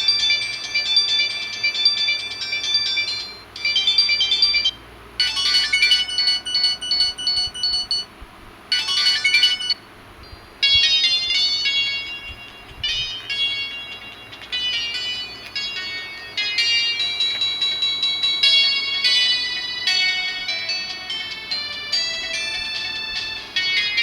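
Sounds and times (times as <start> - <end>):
phone ringtone melodies: 0.0 - 8.1, 8.7 - 24.0.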